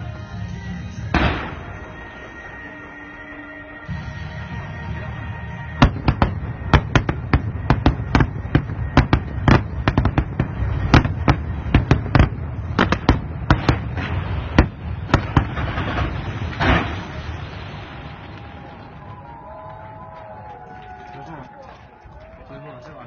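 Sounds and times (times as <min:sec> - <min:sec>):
low rumble: 0:00.6 - 0:20.7
fireworks bangs: 0:01.0 - 0:21.0.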